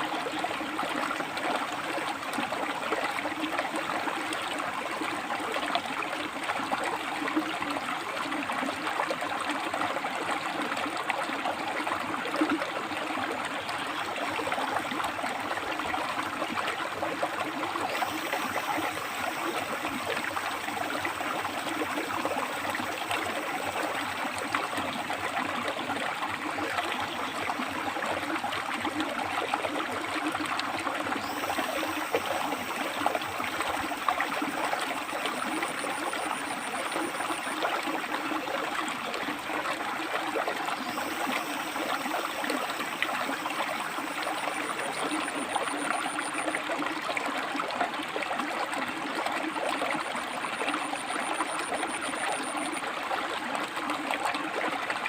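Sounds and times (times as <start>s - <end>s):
river water splashing over rocks: 0.0s - 55.0s.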